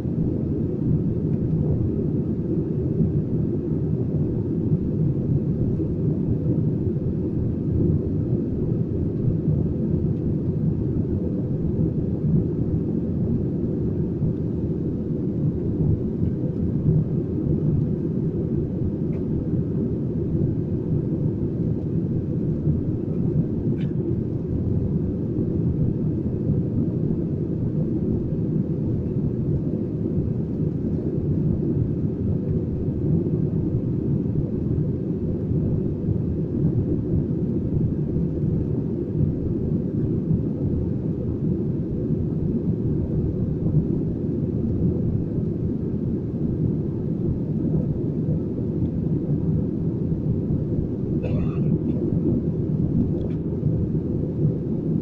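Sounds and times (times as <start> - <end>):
airliner engine roar in cabin: 0.0 - 55.0.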